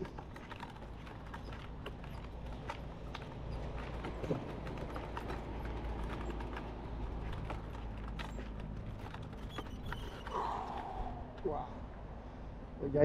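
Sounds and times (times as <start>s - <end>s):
fishing gear rattling: 0.0s - 11.3s
cart wheels rumbling on asphalt: 0.0s - 11.5s.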